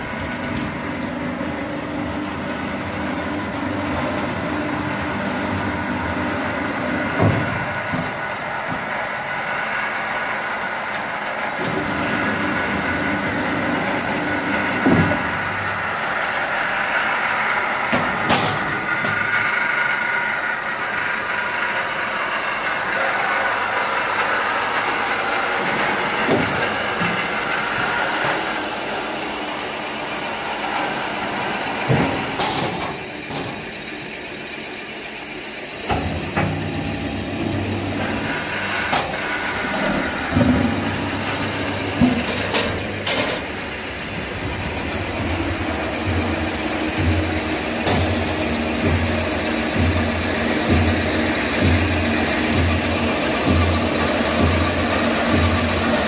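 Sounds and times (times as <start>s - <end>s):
motors and conveyor humming: 0.0s - 56.0s
veneer lathe running: 0.0s - 56.0s.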